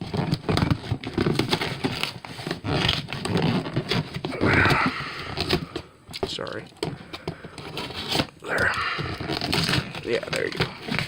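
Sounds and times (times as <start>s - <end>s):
knife cutting open a box: 0.0s - 5.9s, 6.9s - 11.0s
cardboard scraping and tearing: 0.0s - 6.5s, 7.4s - 11.0s.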